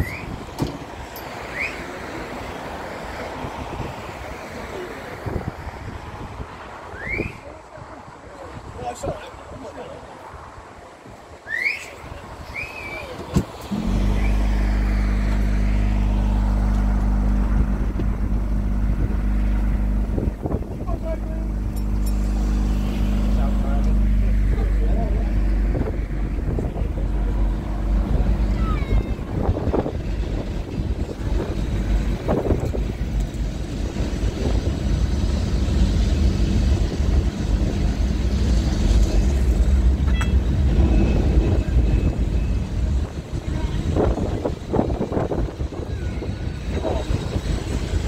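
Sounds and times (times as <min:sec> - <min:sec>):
tram track noise: 0:00.0 - 0:09.4, 0:10.0 - 0:48.0
rushing wind: 0:00.0 - 0:48.0.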